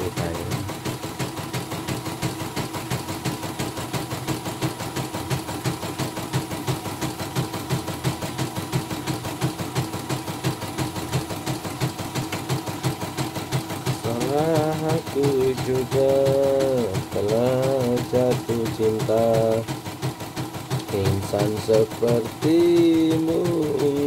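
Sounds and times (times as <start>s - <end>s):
embroidery machine stitching: 0.0s - 24.0s.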